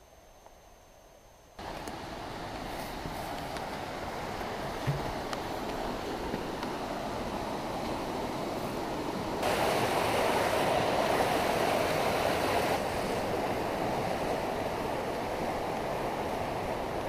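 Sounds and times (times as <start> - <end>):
creek water rushing over rocks: 1.6 - 17.0.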